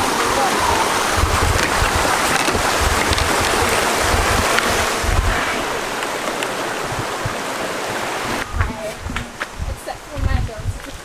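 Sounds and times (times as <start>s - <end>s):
rushing wind hiss: 0.0s - 11.0s
wind buffeting microphone: 0.0s - 11.0s.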